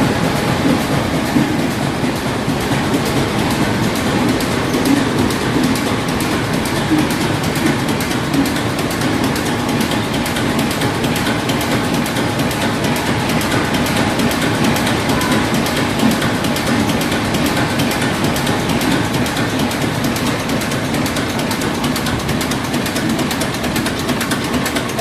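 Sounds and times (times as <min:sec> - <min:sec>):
stationary engines clattering: 0:00.0 - 0:25.0.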